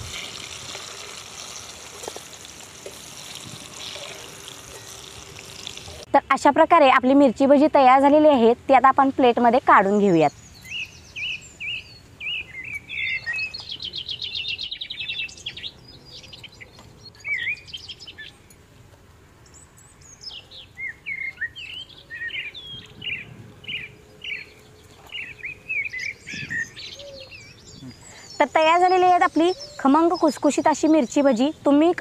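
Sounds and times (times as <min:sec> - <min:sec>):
small birds singing: 0:00.0 - 0:06.1, 0:09.0 - 0:32.0.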